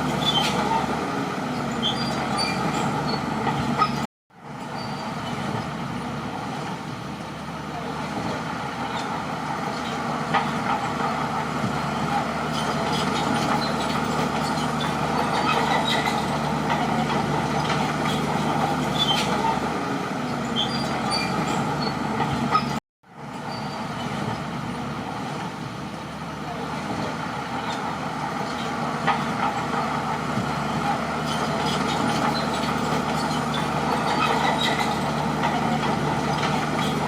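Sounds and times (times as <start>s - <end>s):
track clicks and squeaks: 0.0s - 5.8s, 8.2s - 24.8s, 26.5s - 37.0s
bulldozer diesel engine drone: 0.0s - 37.0s.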